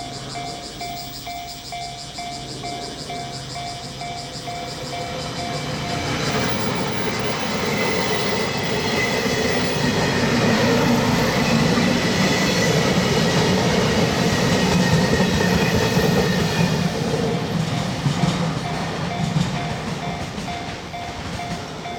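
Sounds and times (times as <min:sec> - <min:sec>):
crossing warning bell clanging: 0:00.0 - 0:21.9
train passing: 0:00.0 - 0:21.9.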